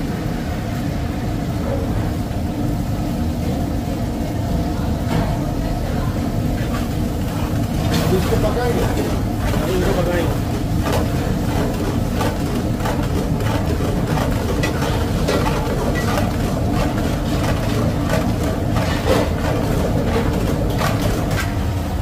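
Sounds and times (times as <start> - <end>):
gas range roaring: 0.0 - 22.0
pops and sizzles of cooking: 0.0 - 22.0.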